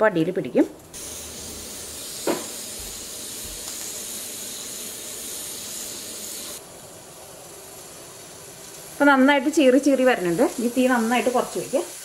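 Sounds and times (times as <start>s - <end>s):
pressure cooker steam hissing: 1.0s - 12.0s.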